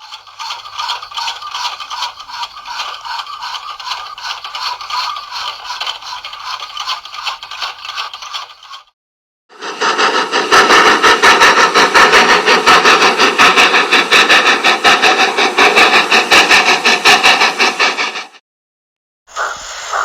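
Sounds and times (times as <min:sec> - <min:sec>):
locomotive rushing and chugging: 0:00.0 - 0:08.9, 0:09.6 - 0:18.4.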